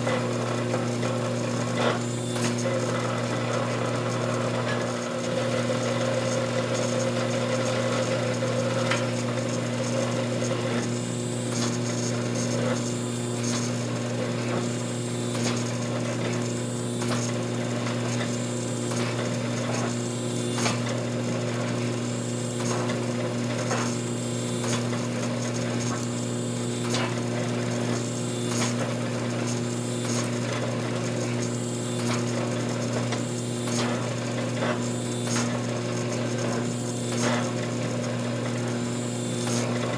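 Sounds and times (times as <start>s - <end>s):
motor and pump humming: 0.0s - 39.9s.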